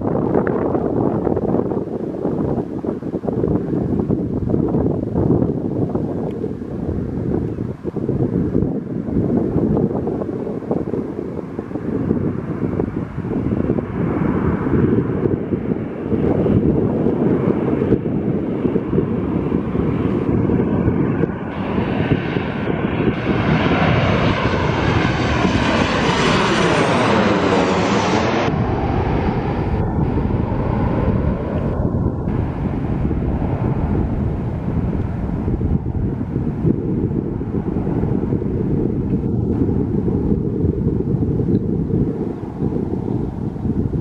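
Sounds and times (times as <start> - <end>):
jet engines passing overhead: 0.0 - 44.0
low jet rumble: 0.0 - 44.0.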